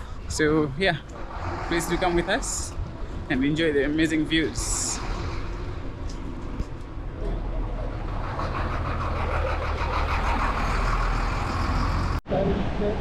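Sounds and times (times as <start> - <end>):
car engine and road rumble: 0.0 - 12.2.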